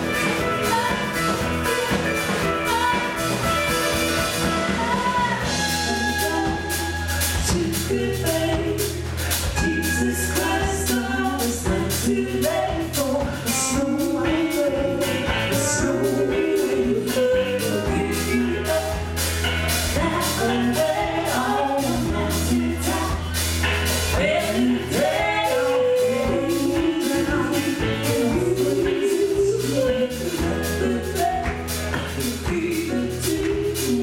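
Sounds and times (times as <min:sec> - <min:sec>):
bass guitar: 0:00.0 - 0:34.0
electric guitars: 0:00.0 - 0:34.0
person singing: 0:00.0 - 0:34.0
steady drum beat: 0:00.0 - 0:34.0.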